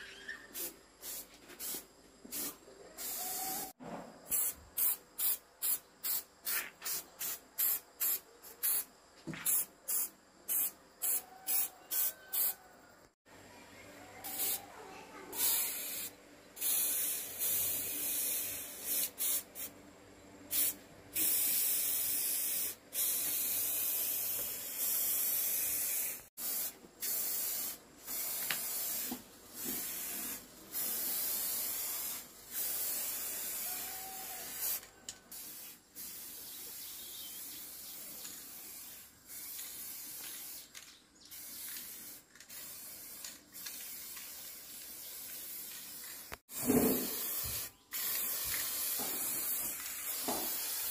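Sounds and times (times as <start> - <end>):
spray paint can hissing: 0.5 - 12.6, 14.2 - 19.8, 20.5 - 50.9.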